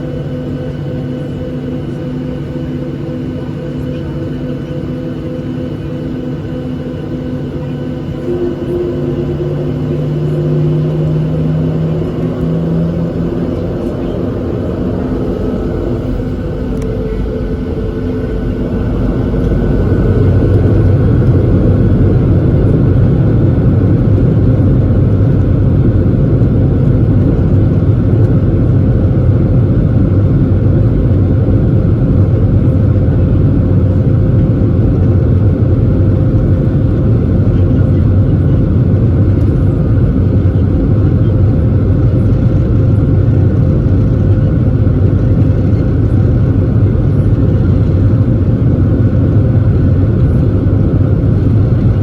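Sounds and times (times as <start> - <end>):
jet engines rumbling in cabin: 0.0 - 52.0
steady hum: 0.0 - 52.0.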